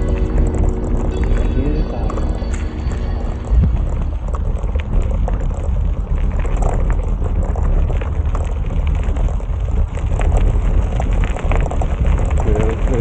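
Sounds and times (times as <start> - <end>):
road and tyre noise: 0.0 - 13.0
small clicks and rattles: 0.0 - 13.0
wind buffeting microphone: 0.0 - 13.0.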